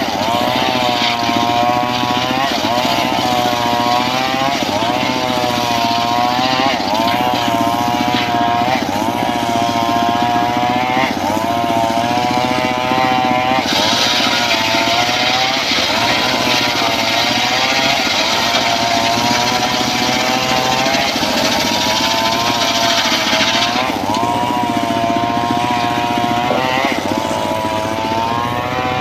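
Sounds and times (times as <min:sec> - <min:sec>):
engine running: 0:00.0 - 0:29.0
saw blade rasping through wood: 0:00.0 - 0:29.0.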